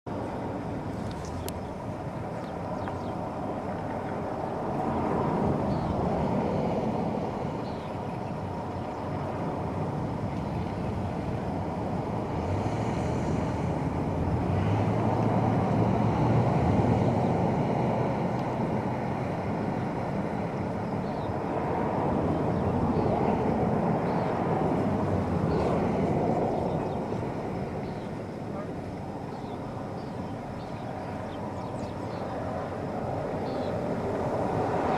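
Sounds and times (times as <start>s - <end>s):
wind rumbling on microphone: 0.1s - 34.9s.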